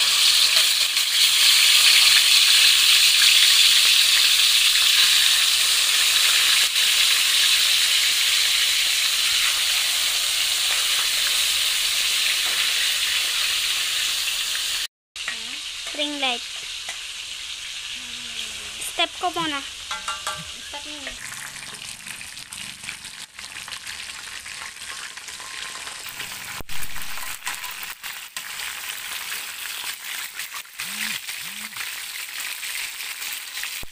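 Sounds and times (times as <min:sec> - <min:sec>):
chicken sizzling in hot oil: 0:00.0 - 0:33.9.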